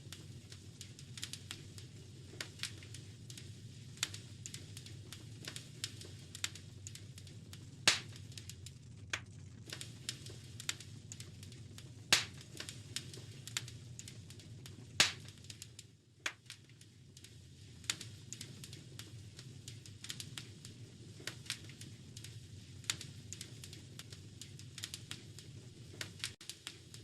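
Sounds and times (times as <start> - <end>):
wood fire crackling: 0.0 - 27.0
loud fire pops: 0.1 - 27.0.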